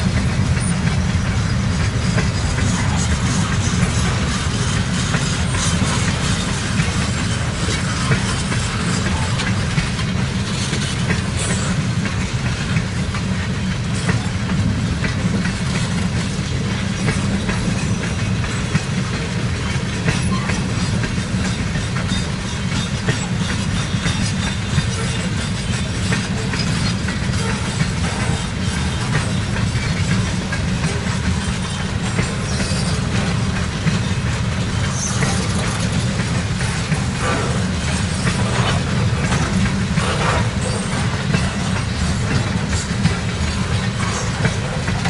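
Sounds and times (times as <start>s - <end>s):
train wheels rumbling on rails: 0.0s - 45.0s
wheels clacking over rail joints: 0.0s - 45.0s.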